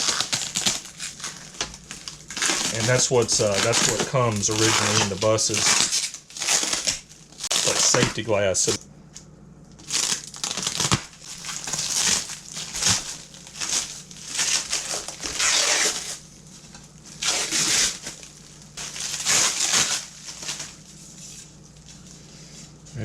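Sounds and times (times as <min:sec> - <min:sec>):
packing material crinkling: 0:00.0 - 0:08.8, 0:09.7 - 0:22.2.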